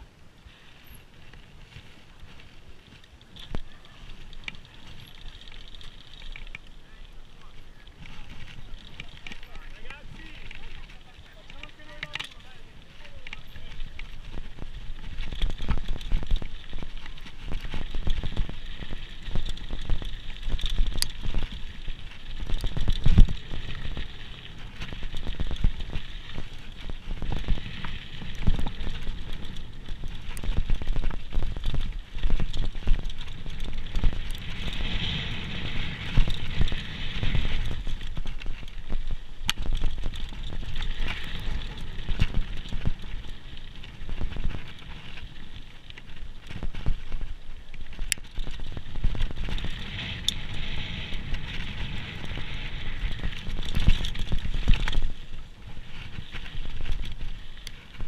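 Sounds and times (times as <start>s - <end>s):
bike tyres crunching over gravel: 0.0s - 58.0s.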